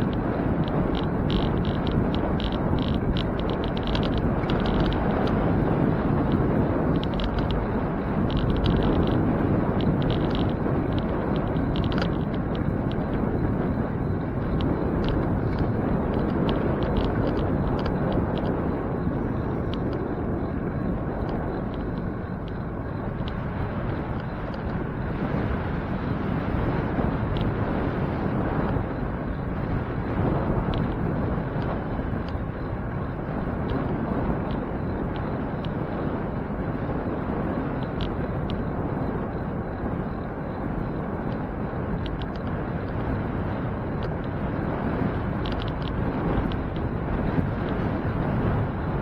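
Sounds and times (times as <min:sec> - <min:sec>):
faint ticks: 0:00.0 - 0:25.6, 0:26.4 - 0:36.4, 0:37.0 - 0:49.0
wind and road noise from bicycle: 0:00.0 - 0:49.0.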